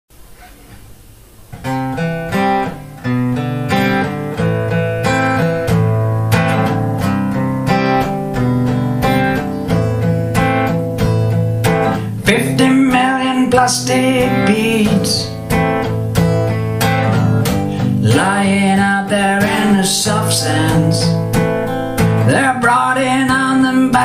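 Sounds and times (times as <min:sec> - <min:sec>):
acoustic guitar strumming chords: 0:00.4 - 0:24.0.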